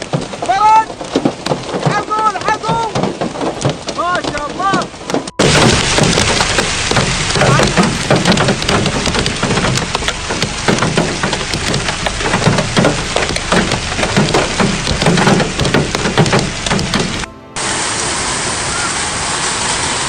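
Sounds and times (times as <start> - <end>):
hailstones clicking and cracking: 0.0 - 17.3
heavy rain rushing: 0.0 - 20.0.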